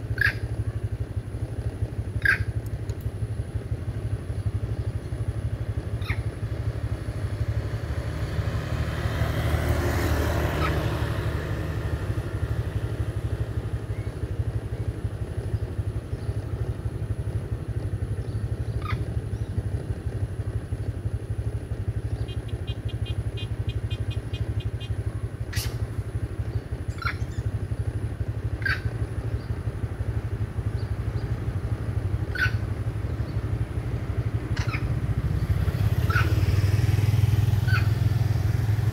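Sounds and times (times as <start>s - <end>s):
low engine rumble: 0.0s - 38.9s
motor scooter passing: 0.0s - 38.9s.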